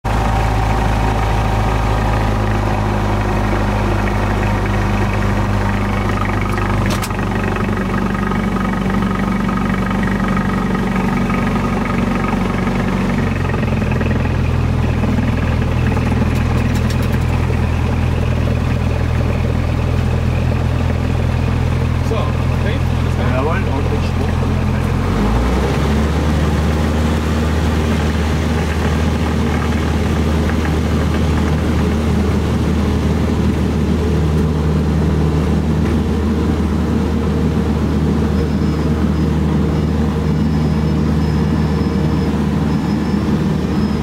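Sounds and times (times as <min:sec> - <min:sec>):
aircraft engine and propeller: 0:00.0 - 0:44.0.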